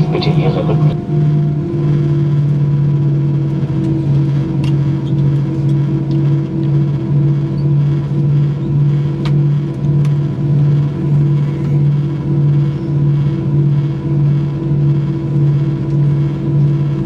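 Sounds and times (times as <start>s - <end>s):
aircraft engine drone: 0.0s - 17.0s
pulsing low hum: 0.0s - 17.0s.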